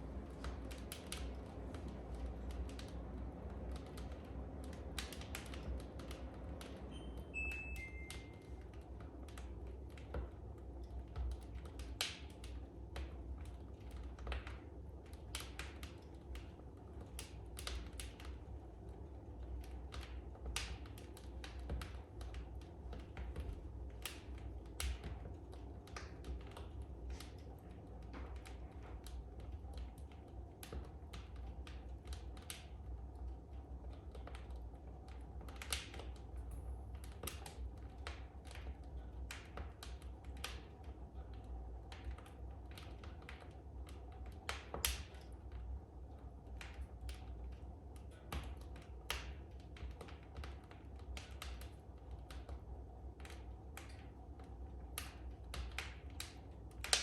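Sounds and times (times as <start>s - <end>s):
wood fire crackling: 0.0s - 57.0s
sharp fire pops and snaps: 0.1s - 7.0s, 8.0s - 57.0s.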